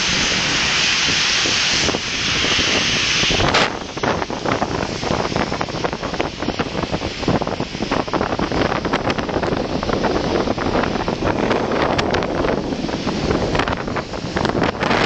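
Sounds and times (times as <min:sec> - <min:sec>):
road and traffic rumble: 0:00.0 - 0:15.0
wind buffeting microphone: 0:00.0 - 0:15.0.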